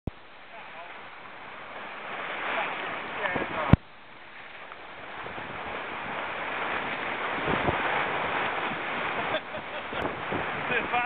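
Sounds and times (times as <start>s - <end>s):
water rushing along boat hull: 0.1s - 11.0s
wind on microphone: 1.2s - 11.0s.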